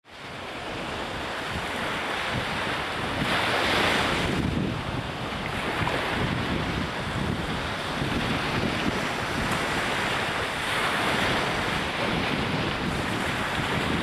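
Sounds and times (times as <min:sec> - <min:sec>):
surf breaking on beach: 0:00.1 - 0:14.0
wind buffeting microphone: 0:00.1 - 0:14.0.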